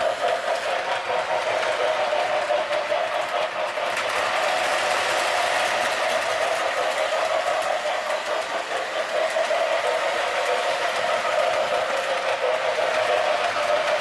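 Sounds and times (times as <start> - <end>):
toy train motor hum: 0.0 - 14.0
toy train wheel and rail noise: 0.0 - 14.0.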